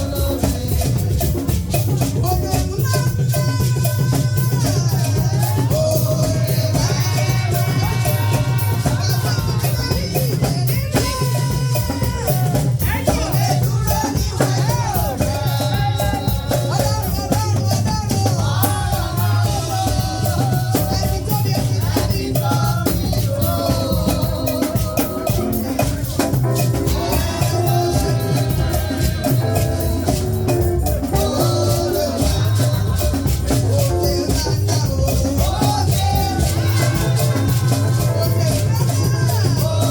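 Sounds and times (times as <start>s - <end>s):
lively band music: 0.0s - 39.9s
shaken rattles: 0.0s - 39.9s
steady drums: 0.0s - 39.9s.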